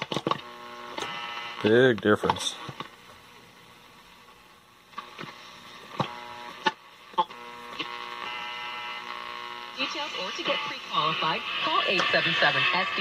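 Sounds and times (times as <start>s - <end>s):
radio static: 0.0s - 3.0s, 4.9s - 13.0s
radio hum with tones: 0.0s - 13.0s.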